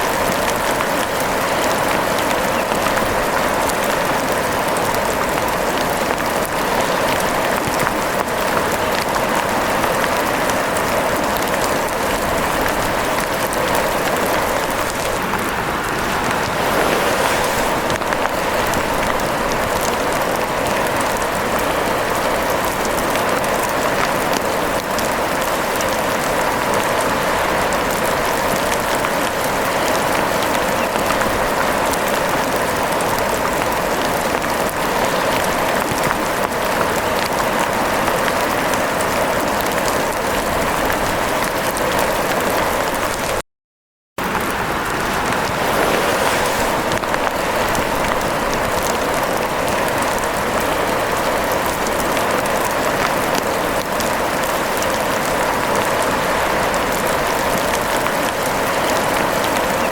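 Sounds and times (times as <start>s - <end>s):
rain pattering: 0.0s - 43.4s, 44.2s - 59.9s.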